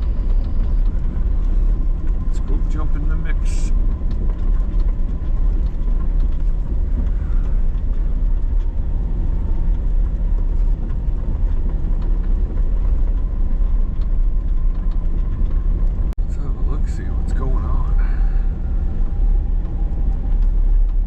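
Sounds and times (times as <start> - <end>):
off-road vehicle engine rumbling: 0.0 - 21.0.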